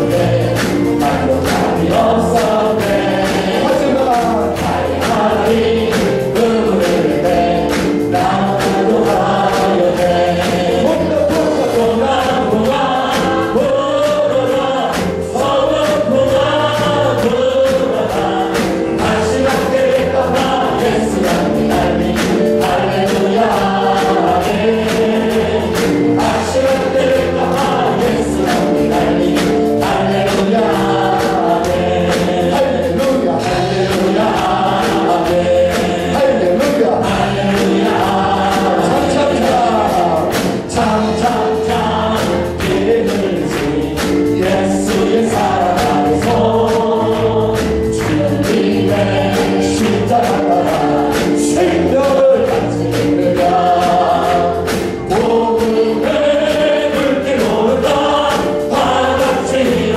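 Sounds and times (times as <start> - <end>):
live band with steady beat: 0.0 - 59.9
man singing into a microphone: 0.0 - 59.9
many voices singing along: 0.0 - 59.9.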